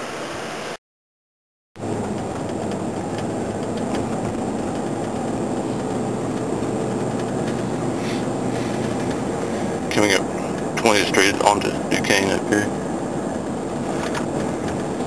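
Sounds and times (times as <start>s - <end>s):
car engine and road noise: 1.8s - 15.0s.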